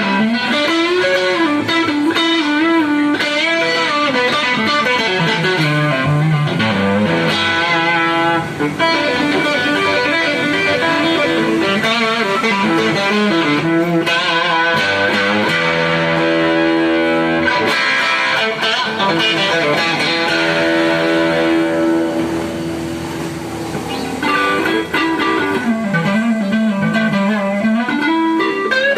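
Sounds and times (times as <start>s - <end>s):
electric guitar lead lines: 0.0s - 28.9s.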